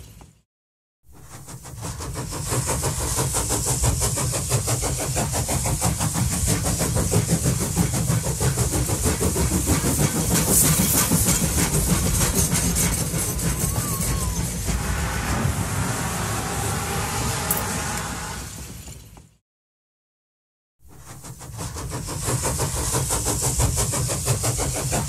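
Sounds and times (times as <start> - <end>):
hiss: 1.2 - 19.1, 20.9 - 25.0.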